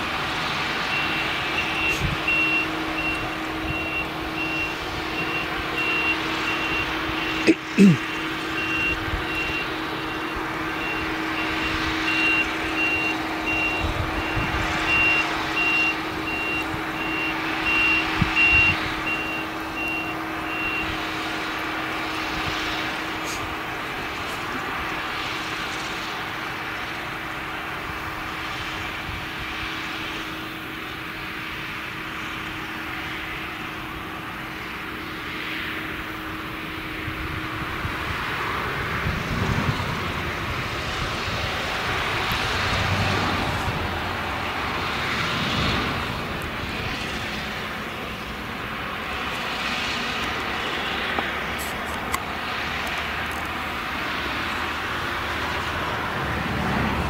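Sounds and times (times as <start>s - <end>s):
harvester engine droning: 0.0s - 57.0s.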